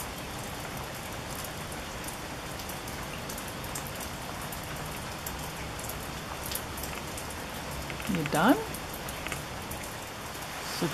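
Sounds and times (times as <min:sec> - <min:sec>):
steady rain falling: 0:00.0 - 0:10.9.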